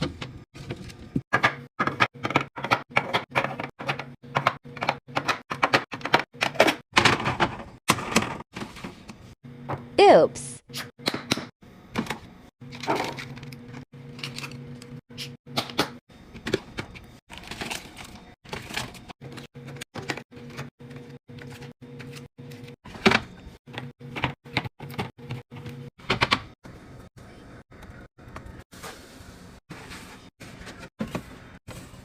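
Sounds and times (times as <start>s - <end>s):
refrigerator low hum: 0.0s - 32.0s.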